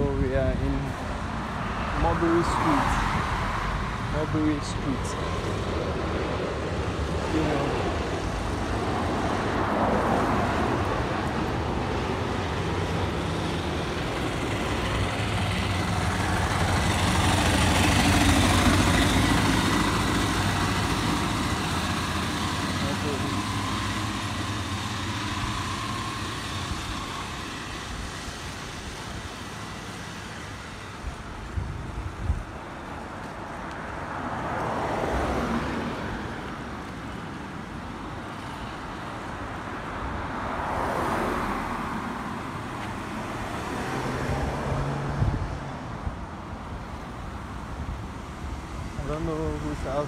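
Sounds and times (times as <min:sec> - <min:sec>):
vehicles passing on road: 0:00.0 - 0:50.0.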